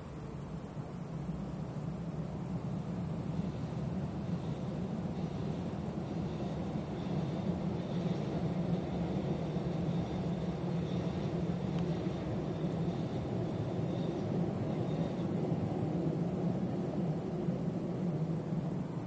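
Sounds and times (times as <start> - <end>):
crickets buzzing: 0.0 - 19.0.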